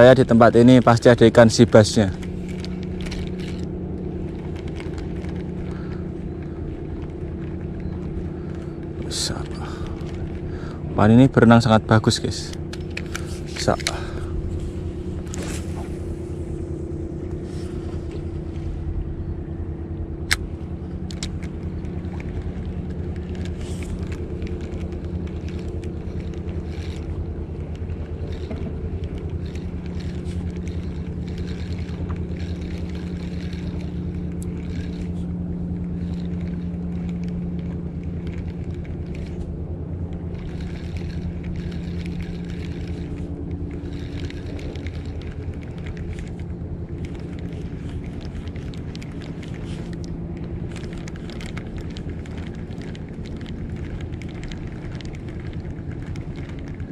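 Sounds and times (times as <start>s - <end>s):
engine idling with low hum: 0.0s - 56.9s.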